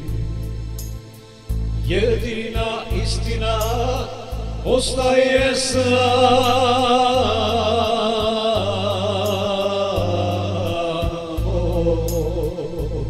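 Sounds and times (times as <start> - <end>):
man singing: 0.0 - 0.6, 1.8 - 13.0
electronic keyboard accompaniment: 0.0 - 13.0
low bass line: 0.0 - 13.0
ticking beat: 0.0 - 13.0.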